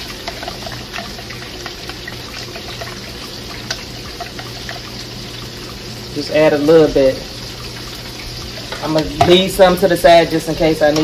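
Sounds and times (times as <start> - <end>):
gravy bubbling in a skillet: 0.0 - 11.0.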